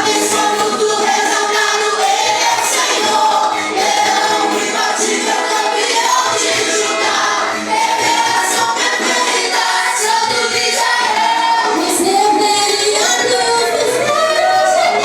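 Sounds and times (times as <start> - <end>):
group singing a worship song: 0.0 - 15.0.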